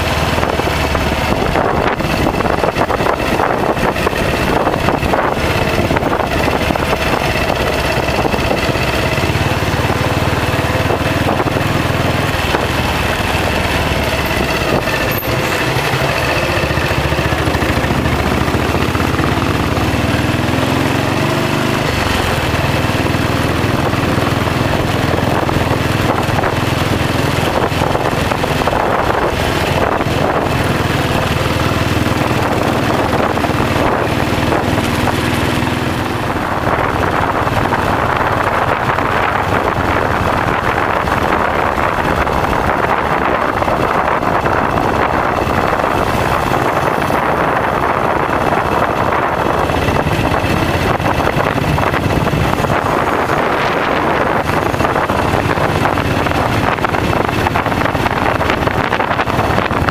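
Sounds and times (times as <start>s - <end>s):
motorcycle engine running: 0.0s - 59.9s
wind buffeting the microphone: 0.0s - 59.9s.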